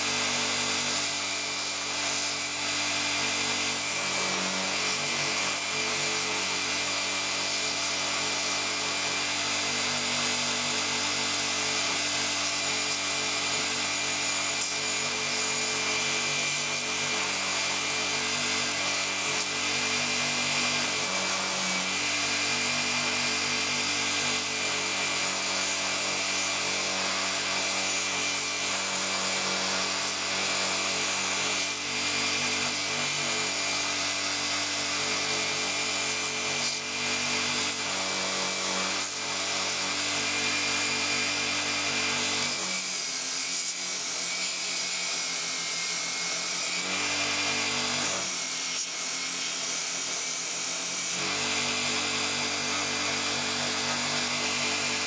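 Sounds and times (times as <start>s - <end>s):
belt grinder motor hum: 0.0s - 55.0s.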